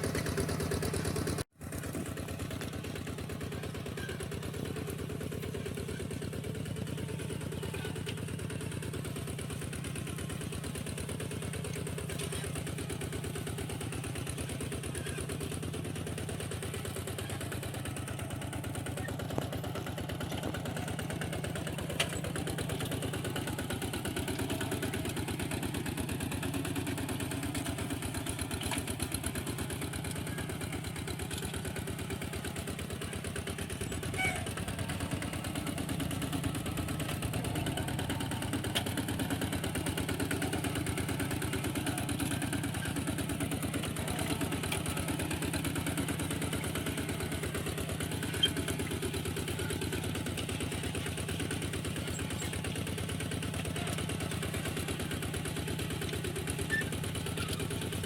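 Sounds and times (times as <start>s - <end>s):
walking tractor engine puttering: 0.0s - 58.0s.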